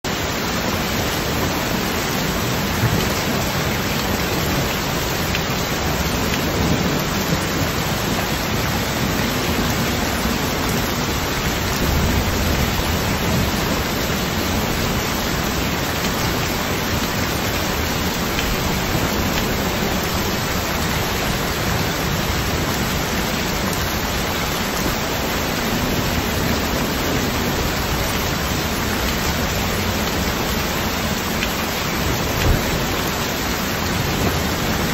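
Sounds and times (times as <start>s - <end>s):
heavy rain on standing water: 0.0s - 34.9s.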